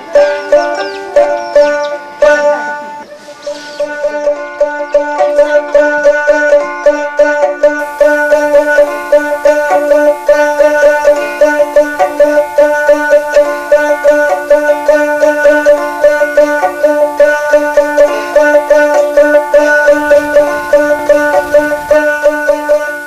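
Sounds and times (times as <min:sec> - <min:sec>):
plucked string instrument melody: 0:00.0 - 0:23.0.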